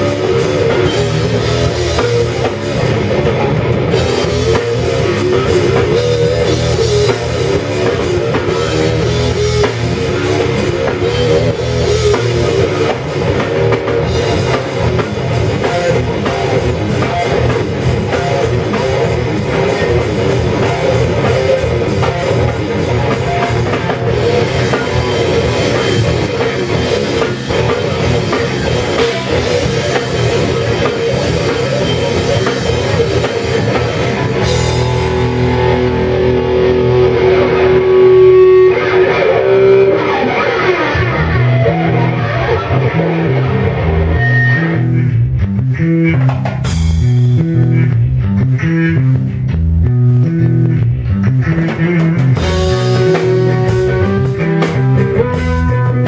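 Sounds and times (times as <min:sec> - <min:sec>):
drum kit with cymbals: 0:00.0 - 0:40.5, 0:46.1 - 0:48.6, 0:49.3 - 0:56.0
bass guitar: 0:00.0 - 0:56.0
electric guitar: 0:00.0 - 0:56.0.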